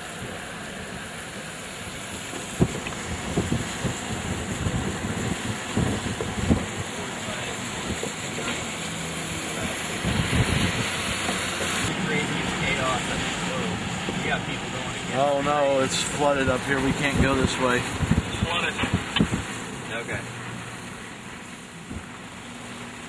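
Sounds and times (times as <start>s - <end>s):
car road noise: 0.0s - 23.0s
wind buffeting microphone: 1.9s - 22.7s.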